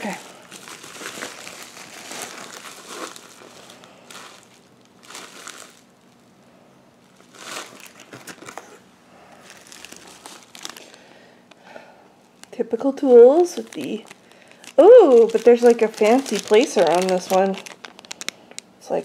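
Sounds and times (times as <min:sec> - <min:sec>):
plastic packaging crinkling: 0:00.0 - 0:06.3, 0:07.0 - 0:11.6, 0:12.2 - 0:18.7.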